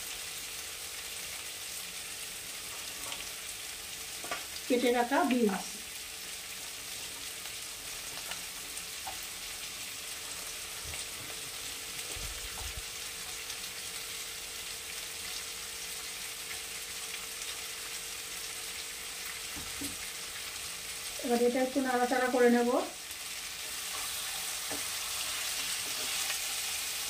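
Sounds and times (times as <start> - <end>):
vegetables sizzling in oil: 0.0 - 27.0.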